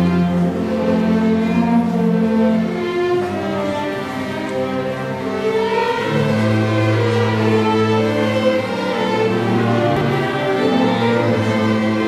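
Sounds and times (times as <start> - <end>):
string orchestra bowed notes: 0.0 - 12.0.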